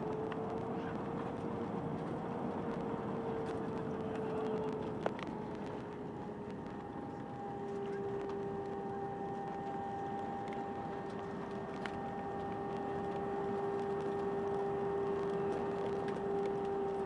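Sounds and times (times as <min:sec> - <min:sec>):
steady whine: 0:00.0 - 0:17.0.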